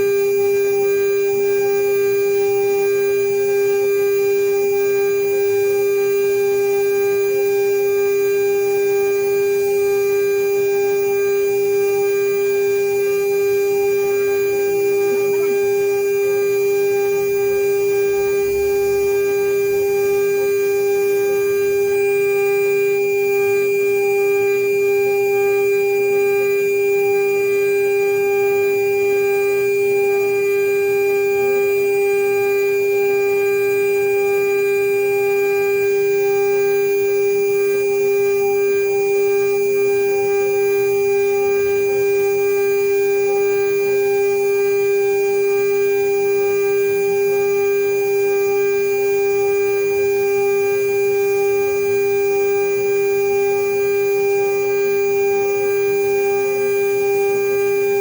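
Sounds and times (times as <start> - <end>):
router spindle high-pitched whine: 0.0 - 58.0.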